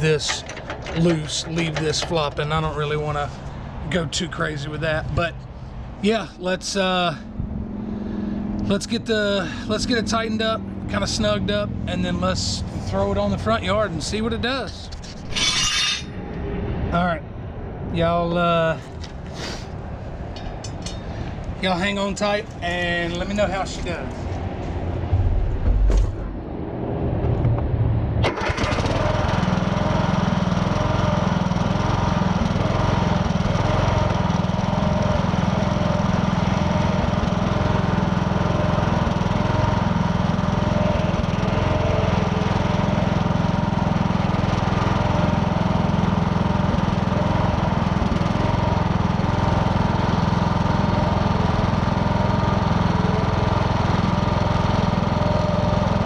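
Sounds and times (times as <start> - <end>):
riding lawn mower engine: 0.0 - 25.3, 28.2 - 56.0.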